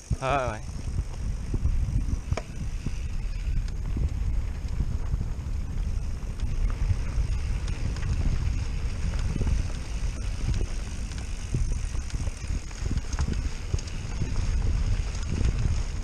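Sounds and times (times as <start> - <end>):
bike tyres rolling on gravel: 0.0 - 16.0
wind buffeting microphone: 0.0 - 16.0
bike clicks and knocks: 2.1 - 16.0.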